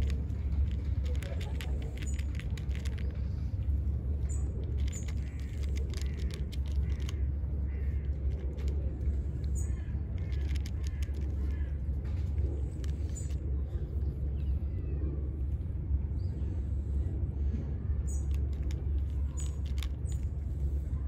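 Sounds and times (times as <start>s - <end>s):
cat crunching dry kibble: 0.0s - 14.4s, 18.2s - 21.0s
steady low rumble: 0.0s - 21.0s.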